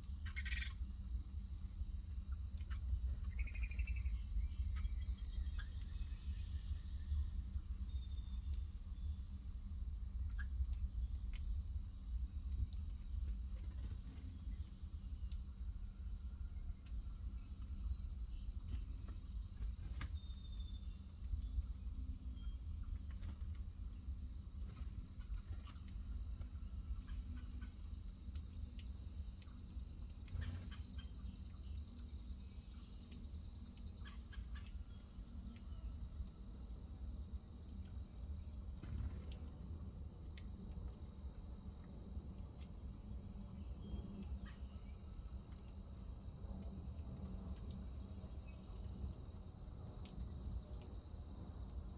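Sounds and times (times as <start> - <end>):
constant low rumble: 0.0 - 51.9
insects trilling: 0.1 - 1.1, 2.2 - 39.3, 41.2 - 51.9.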